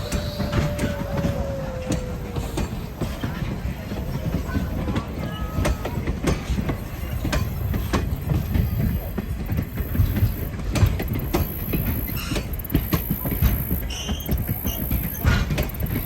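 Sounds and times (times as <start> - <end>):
train cars rolling past: 0.0 - 16.0
wheels clicking over rail joints: 0.0 - 16.0.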